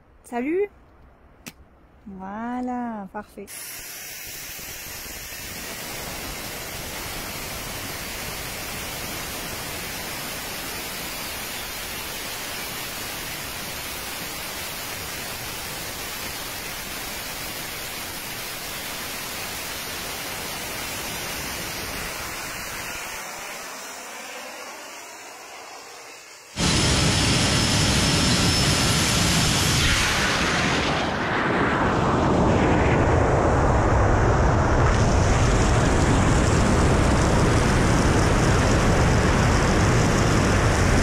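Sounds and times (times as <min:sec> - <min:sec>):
jet turbines hissing: 0:03.4 - 0:41.0.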